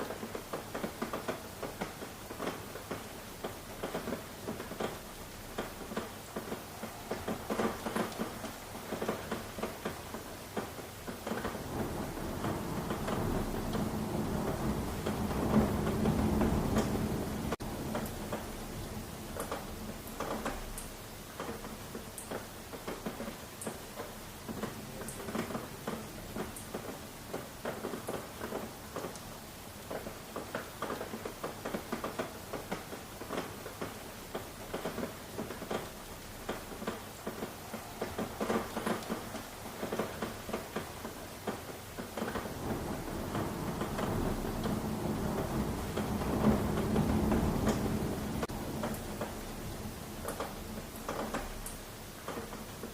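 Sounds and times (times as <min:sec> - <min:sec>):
rain drops pattering: 0:00.0 - 0:52.9.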